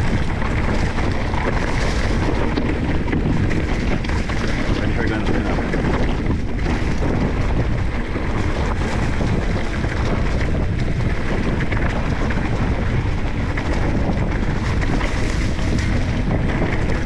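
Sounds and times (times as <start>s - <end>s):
bike rattling over rough ground: 0.0s - 17.0s
wind rush on microphone: 0.0s - 17.0s.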